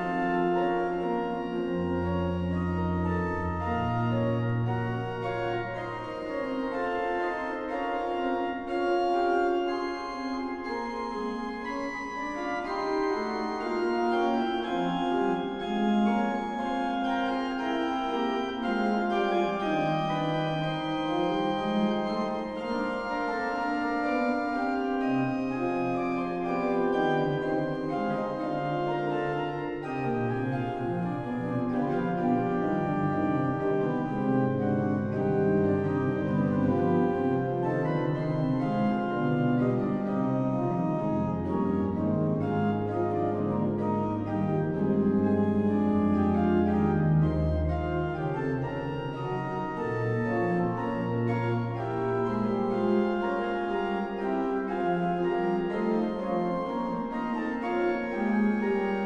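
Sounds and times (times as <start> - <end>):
pipe organ playing a fugue: 0.0 - 59.0.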